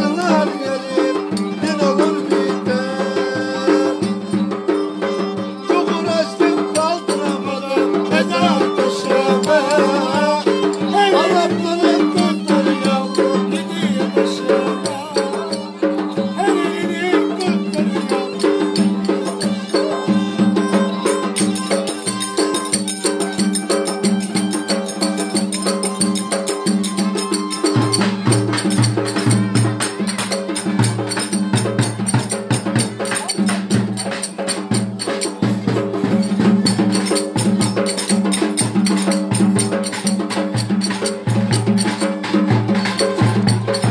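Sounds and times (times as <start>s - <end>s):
violin playing folk dance tune: 0.0s - 39.8s
clacking percussion beat: 0.0s - 43.9s.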